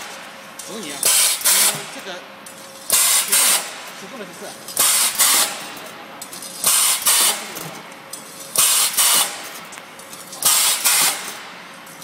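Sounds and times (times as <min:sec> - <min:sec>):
machine running noise: 0:00.0 - 0:12.0.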